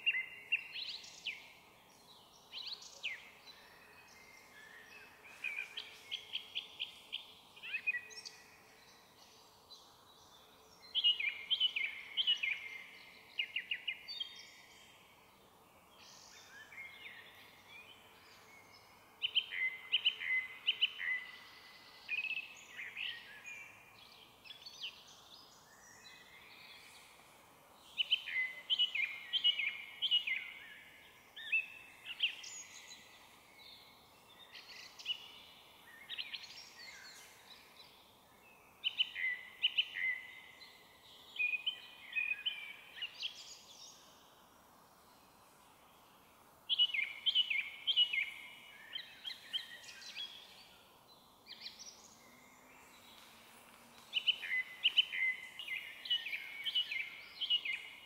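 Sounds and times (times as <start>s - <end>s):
small birds singing: 0.0s - 58.0s
song thrush singing: 0.0s - 58.0s.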